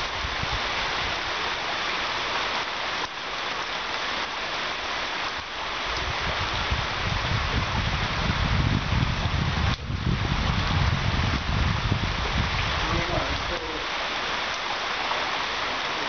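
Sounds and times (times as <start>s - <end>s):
heavy rain on paving: 0.0s - 16.0s.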